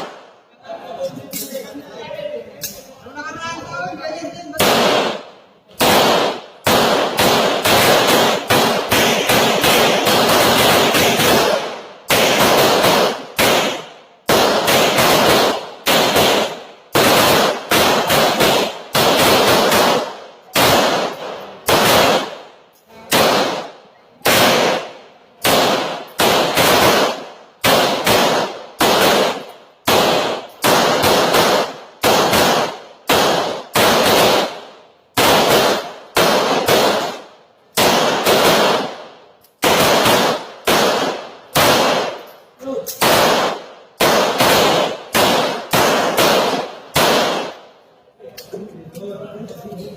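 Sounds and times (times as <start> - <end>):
pistol shots echoing: 0.0 - 0.4, 4.6 - 47.9.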